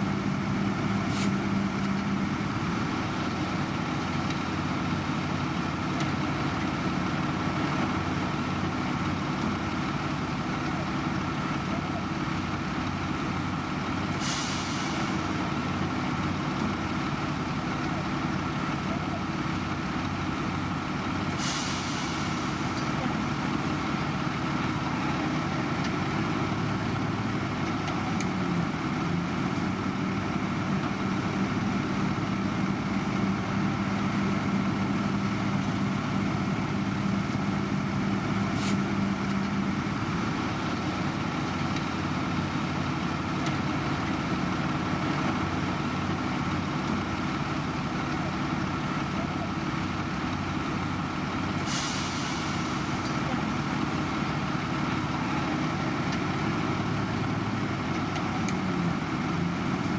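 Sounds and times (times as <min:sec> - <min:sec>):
diesel machinery engine hum: 0:00.0 - 0:59.9.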